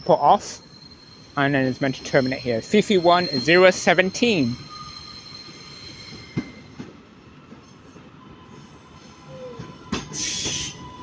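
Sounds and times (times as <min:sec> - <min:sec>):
rumbling rail noise: 0:00.0 - 0:11.0
train wheels squealing: 0:00.0 - 0:11.0.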